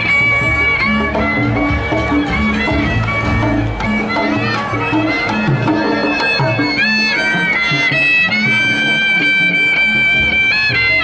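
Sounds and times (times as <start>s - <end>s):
drum rhythm: 0.0s - 11.0s
fiddle-like melody with sliding pitch: 0.0s - 11.0s.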